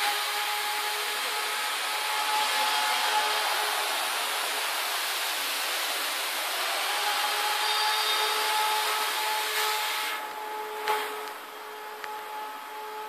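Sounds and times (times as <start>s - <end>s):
steady air hiss: 0.0s - 13.0s.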